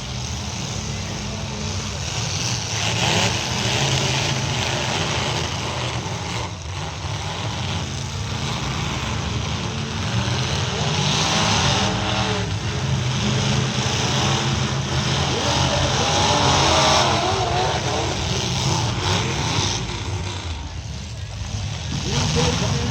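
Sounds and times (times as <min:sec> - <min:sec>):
truck engines revving: 0:00.0 - 0:22.9.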